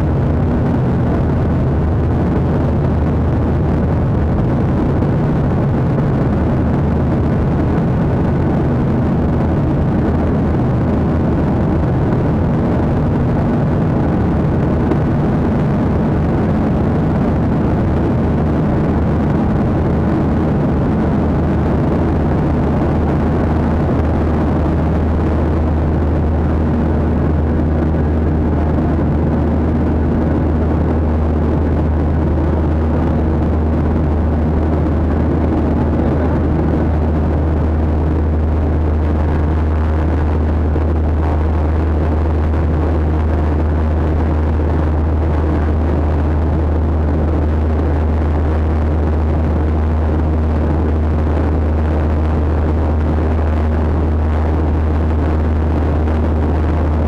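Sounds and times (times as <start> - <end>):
faint low hum: 0.0 - 57.0
jet cabin engine rush: 0.0 - 57.0.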